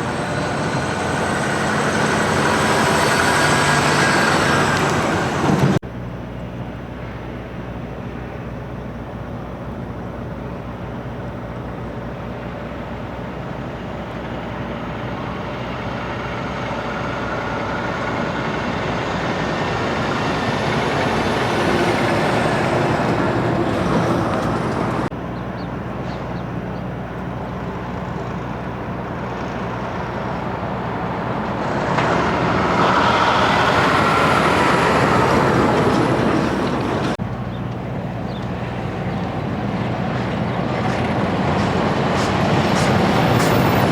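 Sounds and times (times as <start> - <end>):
low engine hum: 0.0 - 43.9
trucks driving past: 0.0 - 43.9.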